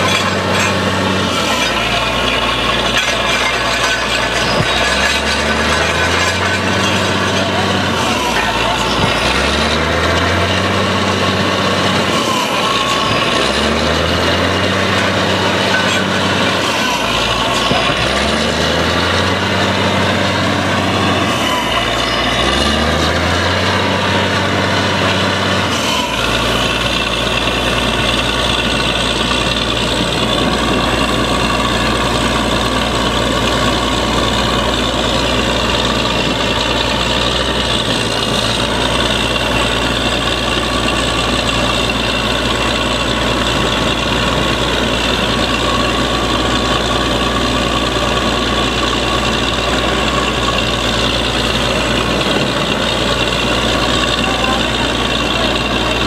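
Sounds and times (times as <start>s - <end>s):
drilling rig engine drone: 0.0s - 56.0s.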